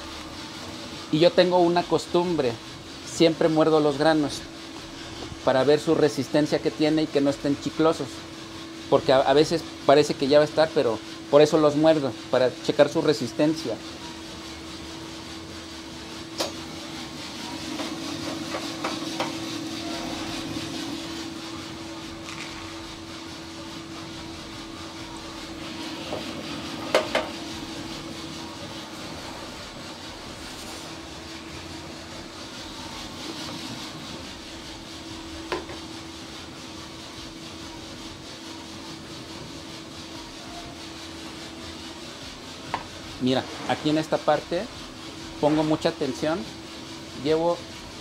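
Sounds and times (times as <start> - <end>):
coffee roaster motor hum: 0.0 - 48.0.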